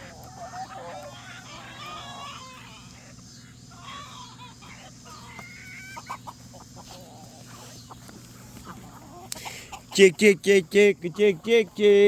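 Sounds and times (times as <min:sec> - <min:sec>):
chickens clucking and calling: 0:00.0 - 0:12.0
steady low hum: 0:00.0 - 0:12.0.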